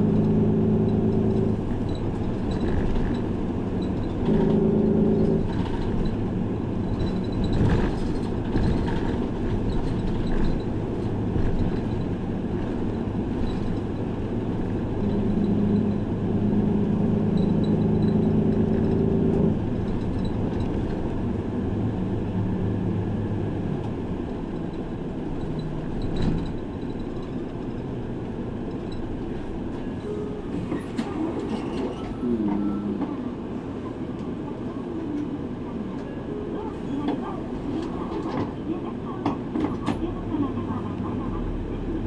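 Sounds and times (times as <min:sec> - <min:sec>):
bus engine pulling: 0:00.0 - 0:42.0
road and cabin rumble: 0:00.0 - 0:42.0.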